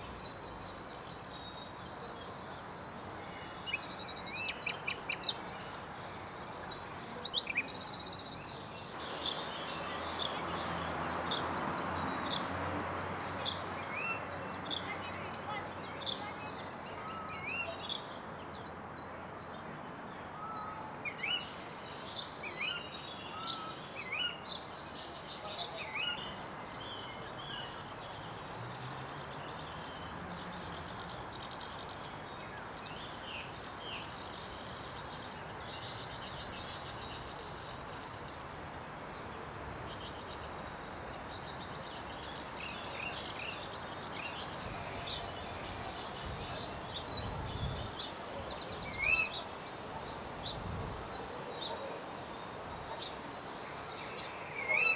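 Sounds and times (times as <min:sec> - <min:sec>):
bird chirping: 0:00.0 - 0:52.0.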